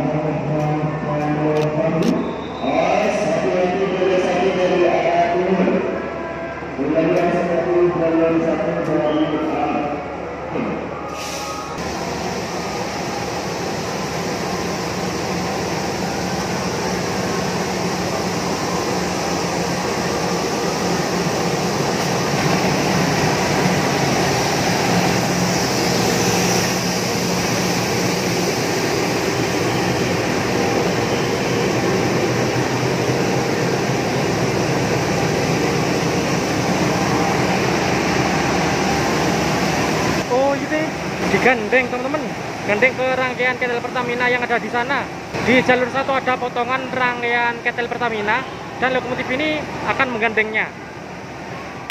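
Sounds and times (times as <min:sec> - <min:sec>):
diesel locomotive engine drone: 0:00.0 - 0:51.9.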